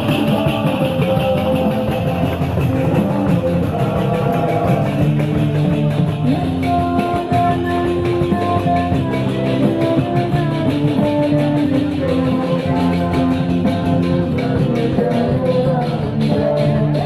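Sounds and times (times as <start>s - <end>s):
loud music with held-note melody: 0.0s - 17.0s
steady beat: 0.0s - 17.0s.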